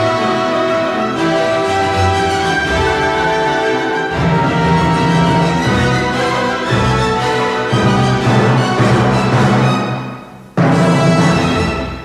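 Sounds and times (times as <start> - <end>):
orchestral theme music: 0.0 - 12.0.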